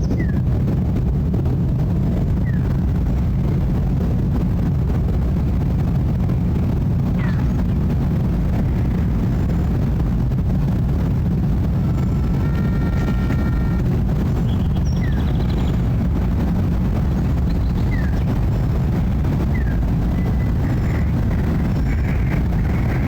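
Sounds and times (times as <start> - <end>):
jet airliner rumble overhead: 0.0 - 23.0.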